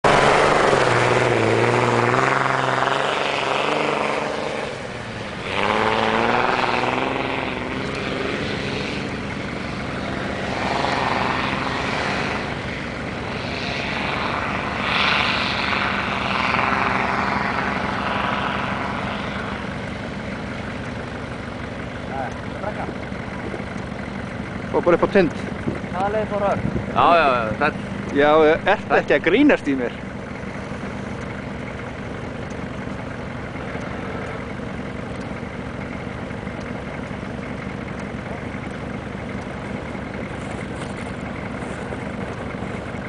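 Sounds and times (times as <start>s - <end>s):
pickup truck engine revving: 0.0s - 43.0s.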